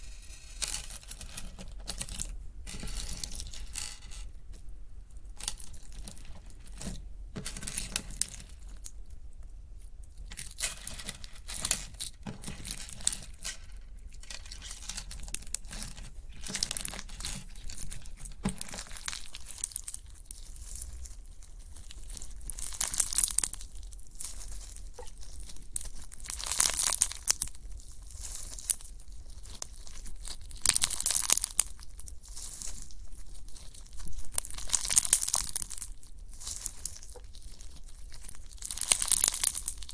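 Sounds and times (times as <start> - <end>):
slime crackling and crinkling: 0.0 - 39.9.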